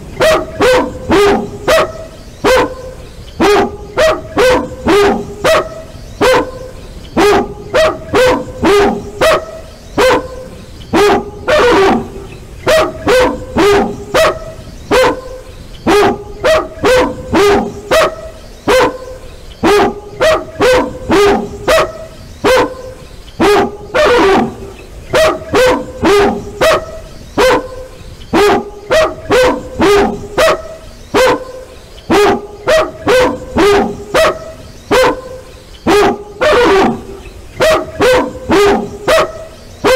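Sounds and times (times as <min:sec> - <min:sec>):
dog barking loudly: 0:00.1 - 0:39.9
dog drawn-out calls: 0:00.1 - 0:39.9.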